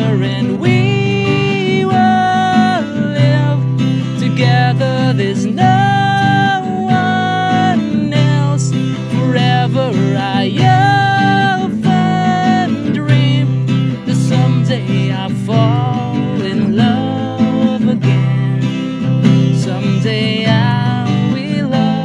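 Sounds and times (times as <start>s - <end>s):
man singing: 0.0s - 22.0s
strummed acoustic guitar: 0.0s - 22.0s.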